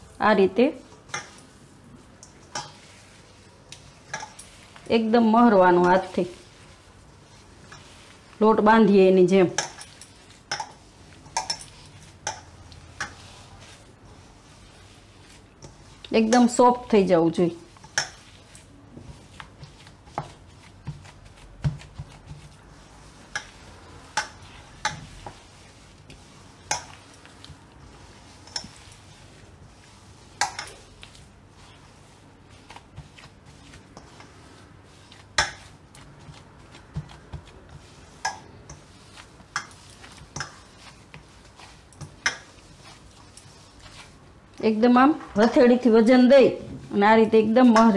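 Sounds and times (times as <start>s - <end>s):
faint rubbing of curd: 0.0s - 47.9s.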